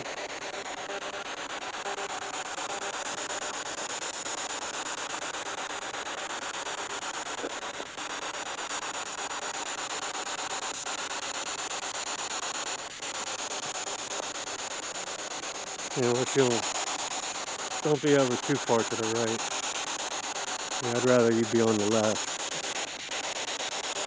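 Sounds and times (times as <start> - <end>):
radio static chopped rapidly: 0.2 - 24.0.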